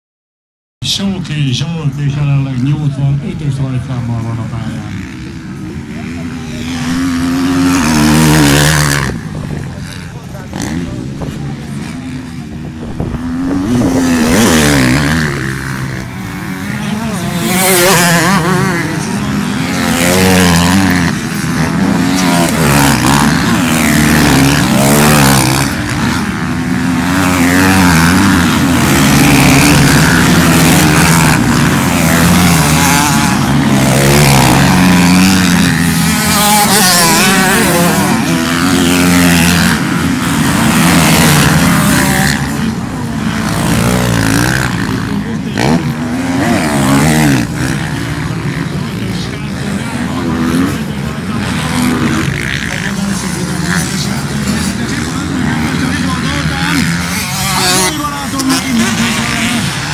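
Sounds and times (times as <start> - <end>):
dirt bikes revving and passing: 0.8 - 59.9.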